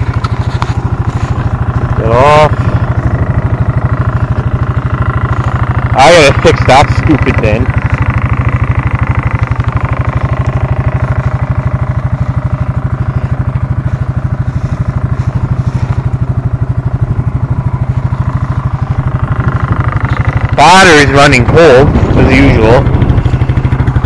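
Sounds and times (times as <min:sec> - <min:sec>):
four-wheeler engine idling: 0:00.0 - 0:24.0.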